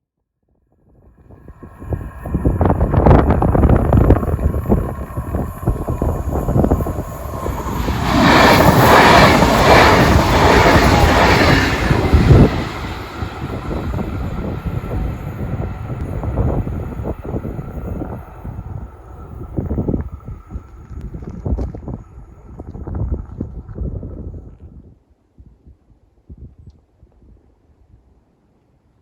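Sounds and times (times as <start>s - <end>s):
train passing on rails: 1.0s - 24.8s.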